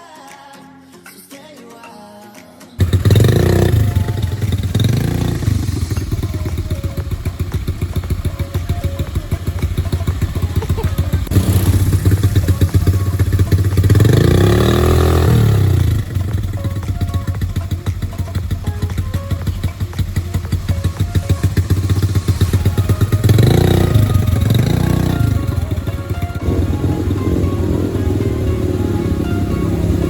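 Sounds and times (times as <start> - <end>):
atv engine revving: 2.8 - 30.0.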